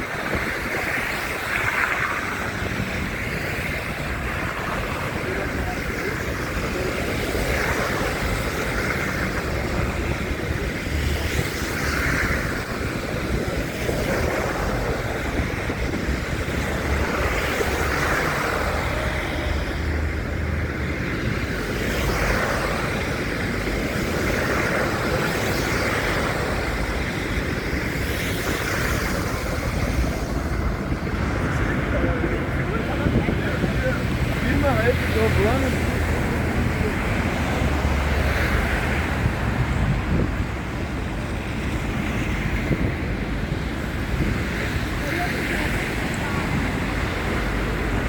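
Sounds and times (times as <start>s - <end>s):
road traffic noise: 0.0s - 48.0s
wind buffeting microphone: 0.0s - 48.0s.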